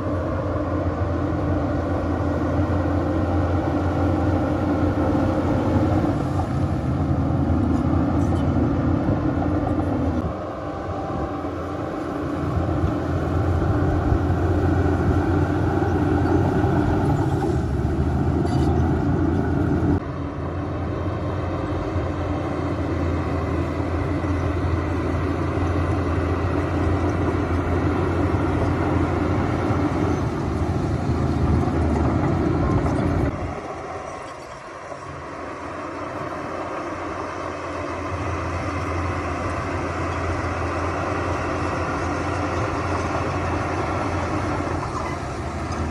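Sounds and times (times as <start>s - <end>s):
heavy machinery diesel engines: 0.0s - 45.9s.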